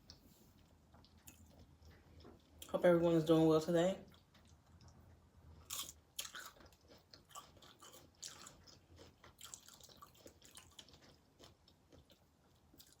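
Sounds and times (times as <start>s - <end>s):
chewing crunchy chips: 0.6s - 2.7s, 4.1s - 13.0s.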